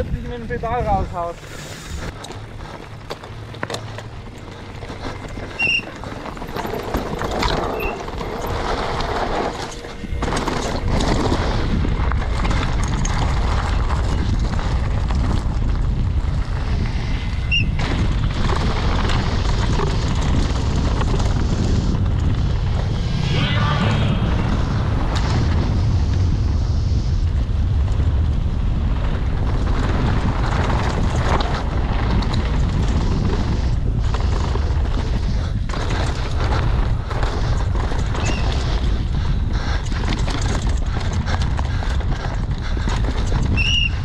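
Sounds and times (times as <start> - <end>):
bike rattling over bumps: 0.0 - 22.9, 25.2 - 44.0
wind on camera microphone: 4.1 - 44.0.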